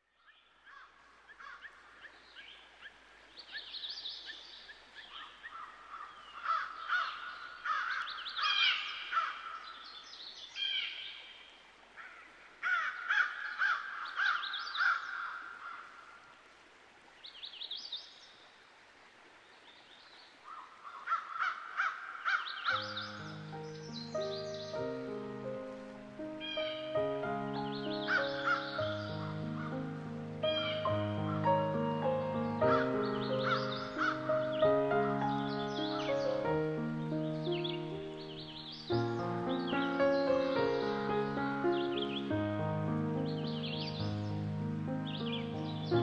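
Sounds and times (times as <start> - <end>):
many birds chirping: 0.2 - 16.0, 19.6 - 46.0.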